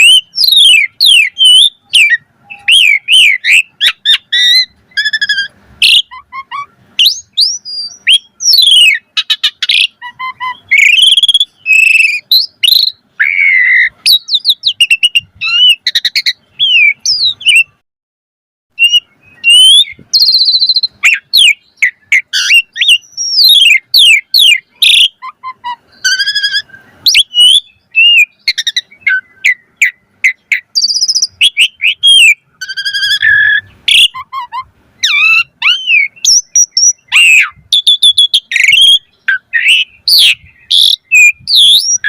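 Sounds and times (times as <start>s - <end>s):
starling singing: 0.0s - 17.8s, 18.7s - 42.0s.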